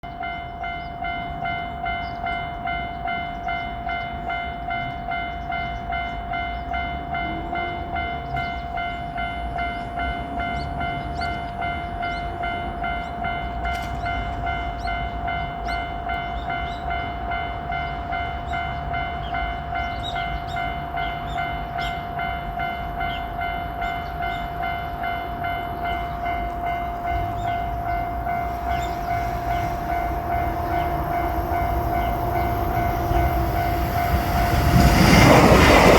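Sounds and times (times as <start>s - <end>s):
level crossing warning bell: 0.0s - 35.9s
electric train rumble: 0.1s - 35.9s.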